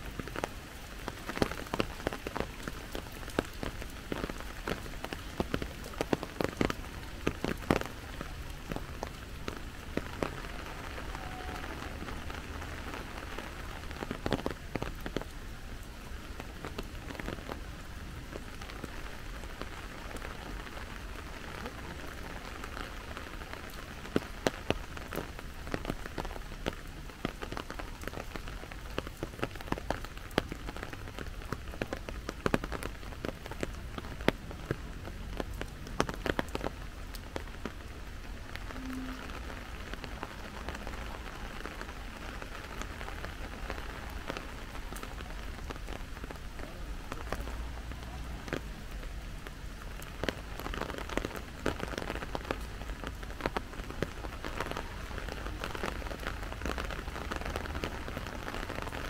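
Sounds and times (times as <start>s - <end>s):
close raindrops ticking: 0.0s - 59.0s
steady rain falling: 0.0s - 59.0s.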